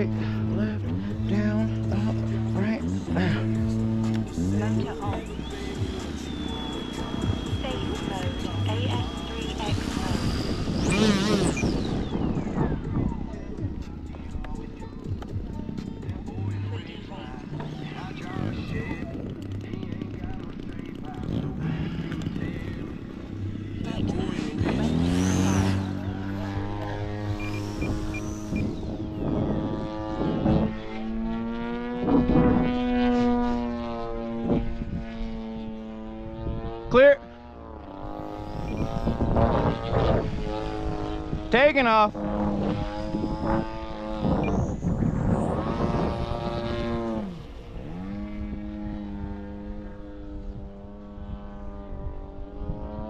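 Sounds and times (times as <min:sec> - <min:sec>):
model airplane engine drone: 0:00.0 - 0:53.0
wind rumble on microphone: 0:00.0 - 0:53.0.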